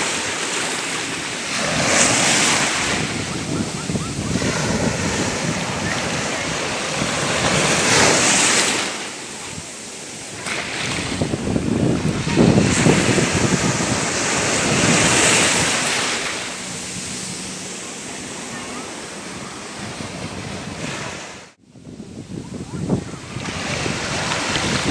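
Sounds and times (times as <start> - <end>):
waves breaking on shore: 0.0 - 24.9.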